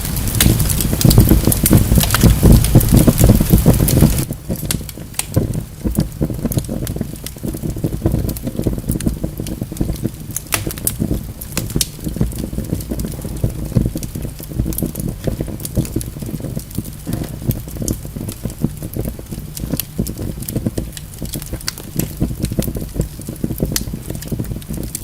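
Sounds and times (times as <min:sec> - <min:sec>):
log fire crackling: 0:00.0 - 0:25.0.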